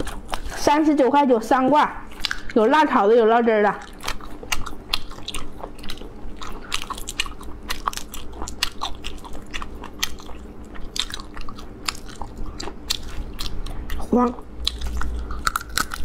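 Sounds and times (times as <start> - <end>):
wet chewing sounds: 0.0 - 0.7, 2.0 - 2.7, 3.7 - 16.0.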